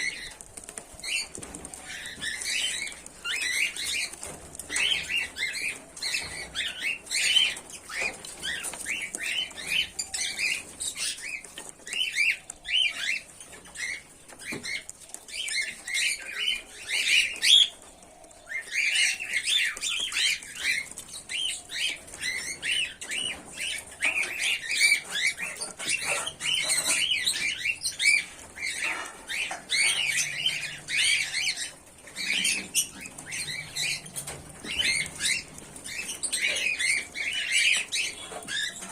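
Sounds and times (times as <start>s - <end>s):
cockatiels chirping: 0.0s - 38.9s.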